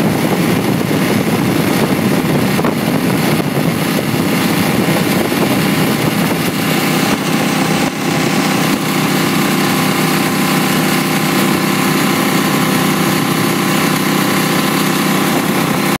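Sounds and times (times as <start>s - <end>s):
boat engine running: 0.0s - 16.0s
rushing water: 0.0s - 16.0s.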